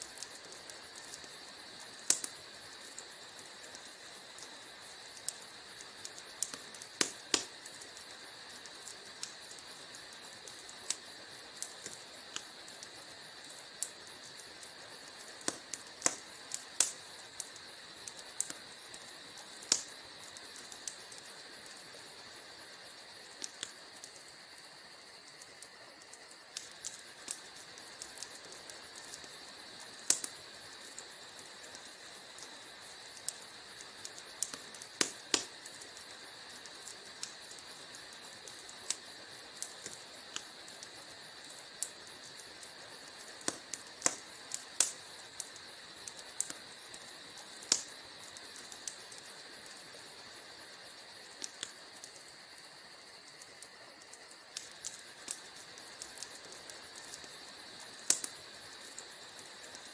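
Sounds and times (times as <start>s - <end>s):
sharp fire pops: 0.0s - 59.9s
wood fire crackling: 0.0s - 59.9s.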